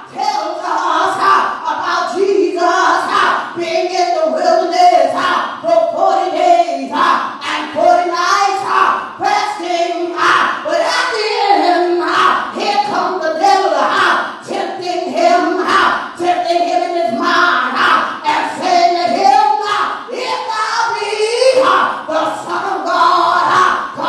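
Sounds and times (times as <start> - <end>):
woman singing into a microphone: 0.0 - 24.0.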